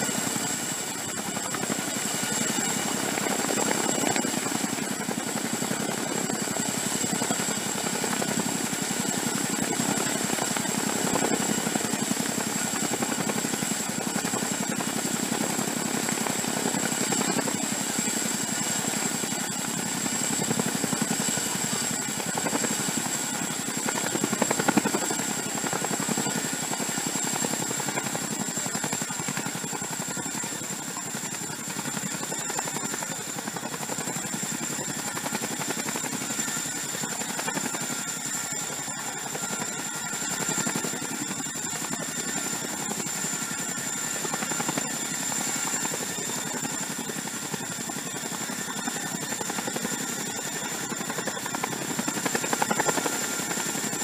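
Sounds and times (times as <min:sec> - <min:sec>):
helicopter rotors beating: 0:00.0 - 0:54.0.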